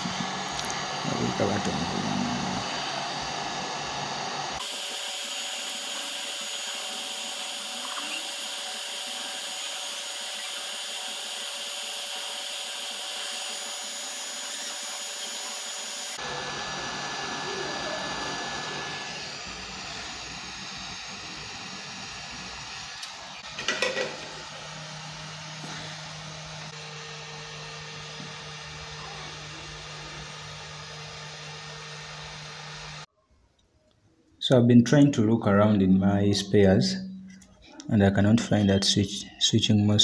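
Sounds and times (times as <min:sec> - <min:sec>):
hot-air station hissing: 0:00.0 - 0:33.1.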